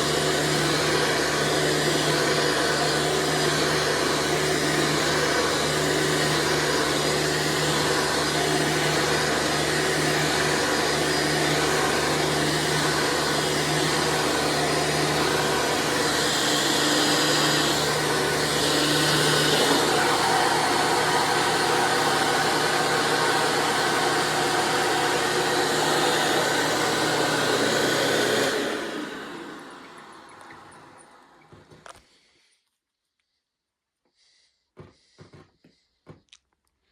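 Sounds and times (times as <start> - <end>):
vacuum cleaner running: 0.0 - 31.9
vacuum cleaner winding down: 0.0 - 31.9.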